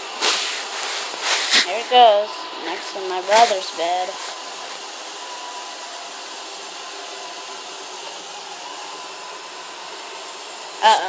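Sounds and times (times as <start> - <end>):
faint high whine: 0.0 - 11.0
robot vacuum whirring: 0.0 - 11.0.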